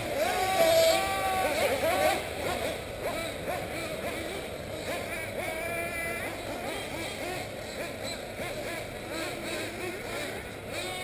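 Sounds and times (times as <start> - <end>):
model car engines whining: 0.0 - 11.0.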